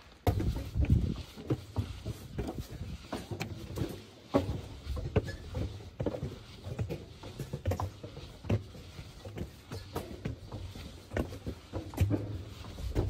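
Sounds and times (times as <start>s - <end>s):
footsteps on stairs: 0.0s - 13.0s.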